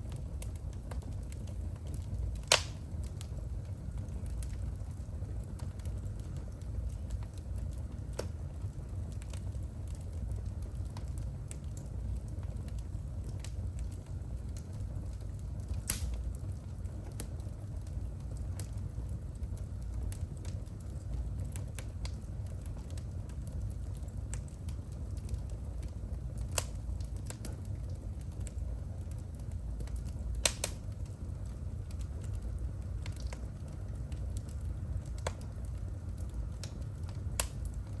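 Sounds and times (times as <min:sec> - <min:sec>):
fire crackling and popping: 0:00.0 - 0:38.0
fire low rumble: 0:00.0 - 0:38.0.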